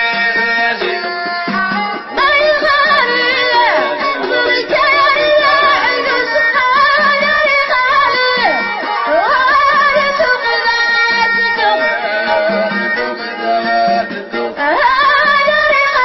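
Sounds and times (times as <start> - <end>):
violin melody: 0.0 - 16.0
woman singing into a microphone: 1.0 - 16.0.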